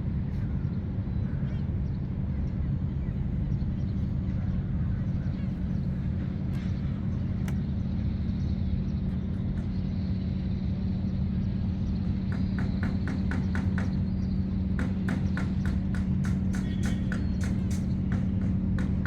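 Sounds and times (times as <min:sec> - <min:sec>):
boat diesel engine rumbling: 0:00.0 - 0:19.0.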